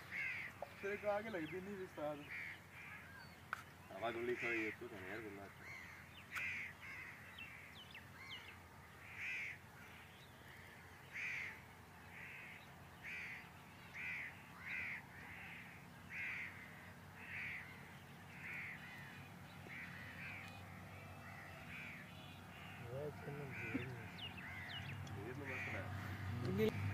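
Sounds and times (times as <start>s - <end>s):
crows cawing: 0.0s - 26.9s.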